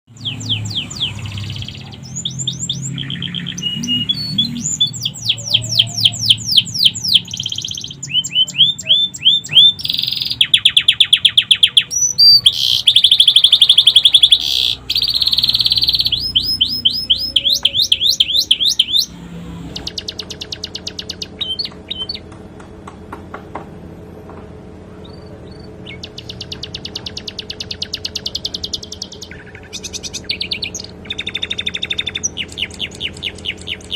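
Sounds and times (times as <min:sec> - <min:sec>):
canary singing trills: 0:00.1 - 0:22.4, 0:24.9 - 0:33.9.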